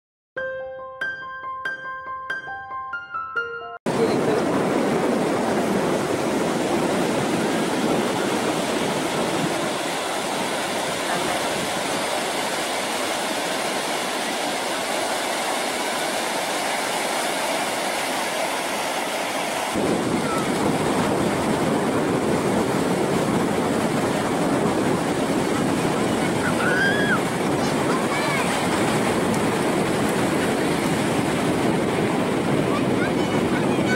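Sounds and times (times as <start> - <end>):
surf breaking on beach: 3.9 - 33.9.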